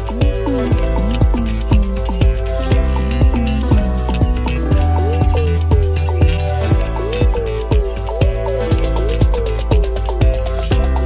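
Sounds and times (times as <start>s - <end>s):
electronic music with sliding synth: 0.0s - 11.0s.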